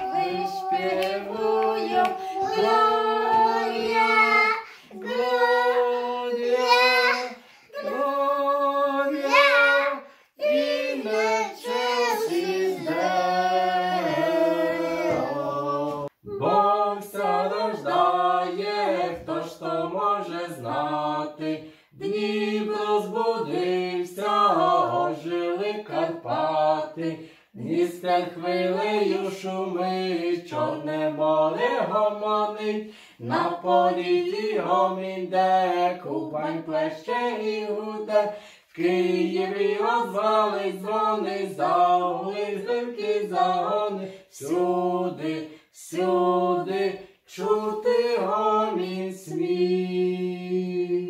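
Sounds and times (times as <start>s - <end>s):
people singing a carol unaccompanied: 0.0s - 51.0s.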